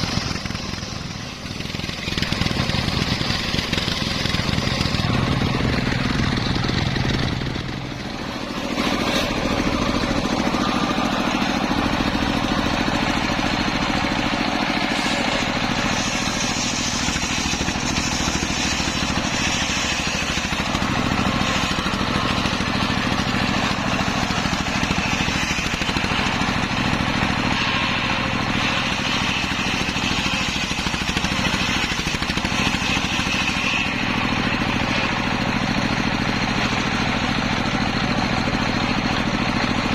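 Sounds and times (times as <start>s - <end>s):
saw blade hissing through wood: 0.0s - 38.0s
circular saw engine hum: 0.0s - 39.9s.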